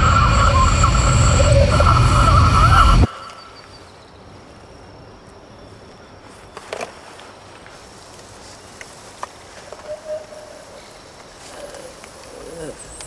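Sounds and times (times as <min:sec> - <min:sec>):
faint steady hiss: 0:01.8 - 0:13.0.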